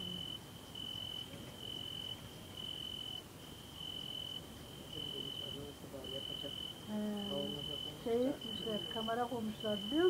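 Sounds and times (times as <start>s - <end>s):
cricket chirping trills: 0.0s - 10.0s.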